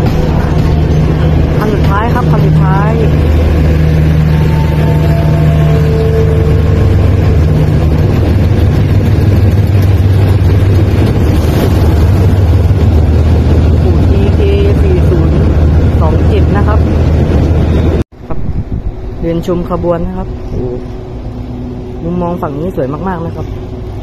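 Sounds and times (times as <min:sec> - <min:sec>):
locomotive engine drone: 0:00.0 - 0:24.0.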